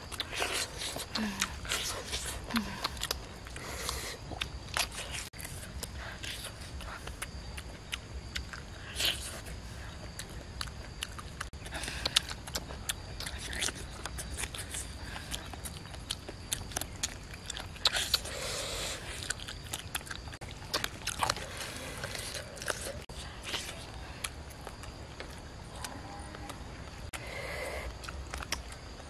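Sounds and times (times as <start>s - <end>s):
person chewing crunchy meat: 0.0s - 25.6s, 27.1s - 29.0s.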